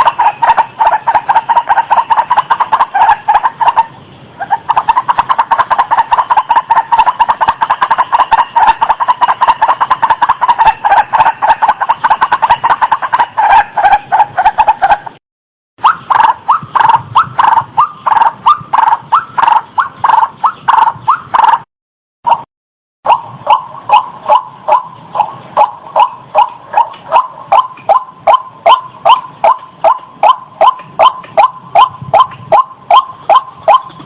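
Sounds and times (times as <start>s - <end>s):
waterhen calling harshly: 0.0s - 15.1s, 15.8s - 21.6s, 23.1s - 34.0s.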